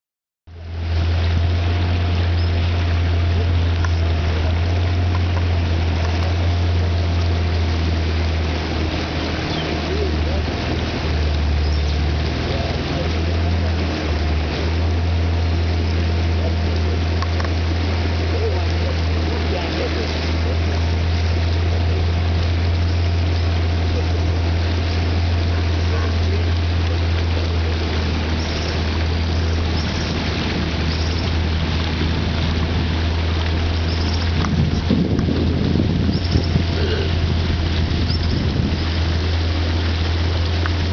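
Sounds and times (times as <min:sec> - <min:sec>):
boat motor humming: 0:00.5 - 0:40.9
rushing wash of water: 0:00.5 - 0:40.9.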